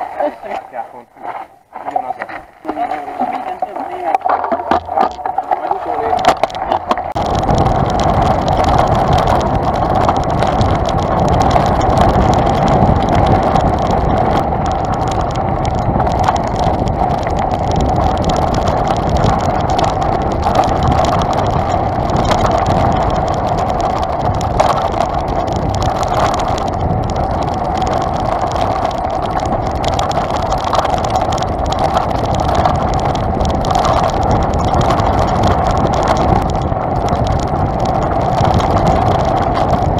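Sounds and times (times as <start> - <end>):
bike rattling: 0.0 - 39.9
tyres rumbling on dirt trail: 0.0 - 39.9
wind: 0.0 - 39.9.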